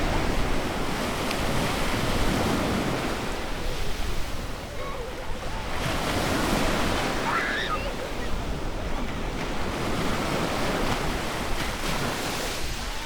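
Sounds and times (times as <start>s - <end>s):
ocean waves breaking on beach: 0.0s - 13.0s.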